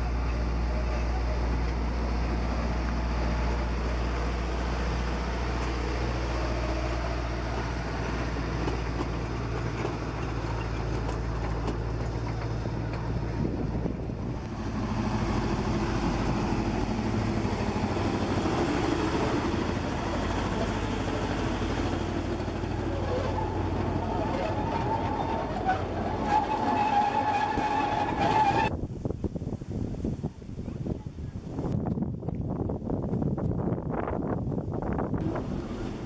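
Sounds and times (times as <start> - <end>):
diesel locomotive running: 0.0 - 28.8, 32.4 - 36.0
passing train rumbling: 0.0 - 29.8, 31.5 - 36.0.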